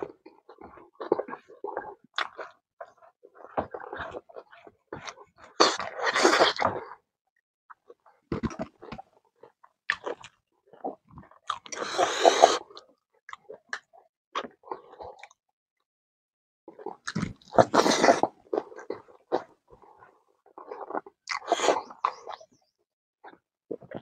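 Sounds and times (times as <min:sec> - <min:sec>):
wet chewing and lip-smacking: 0:00.0 - 0:07.0, 0:07.8 - 0:15.4, 0:16.7 - 0:24.0.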